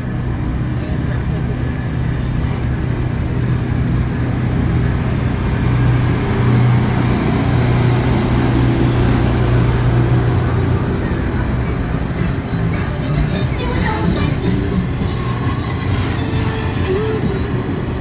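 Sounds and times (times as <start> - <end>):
diesel locomotive humming: 0.0 - 18.0.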